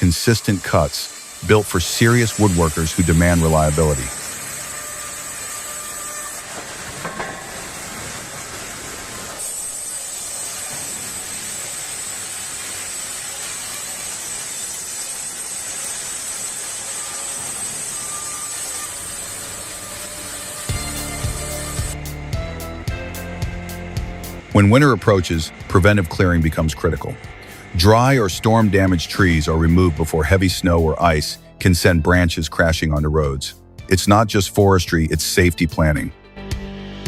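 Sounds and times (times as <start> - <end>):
band saw cutting log: 0.0 - 36.0.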